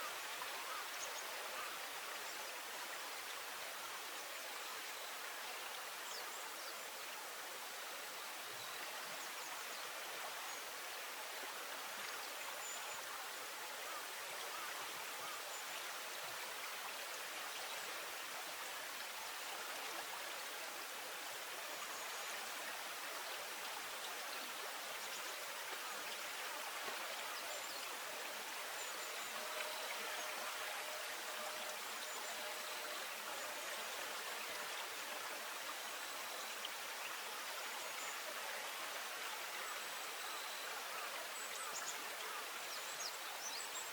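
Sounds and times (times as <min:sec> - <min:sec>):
flowing water rushing: 0:00.0 - 0:43.9.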